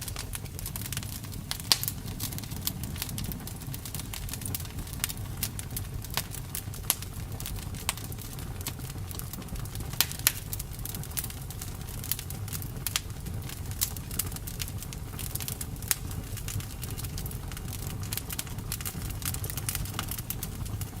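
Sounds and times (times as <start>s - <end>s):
campfire crackling and popping: 0.0s - 21.0s
low rumble of flames: 0.0s - 21.0s.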